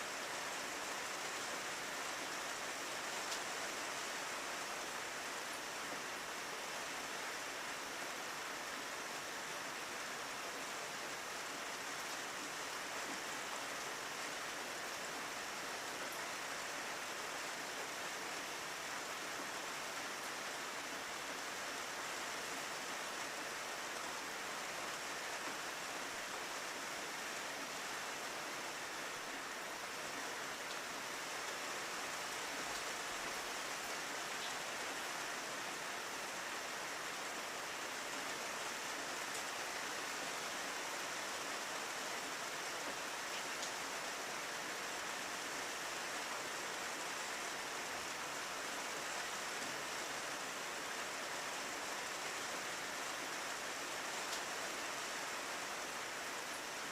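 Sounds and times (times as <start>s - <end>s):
rain on a window pane: 0.0s - 56.9s.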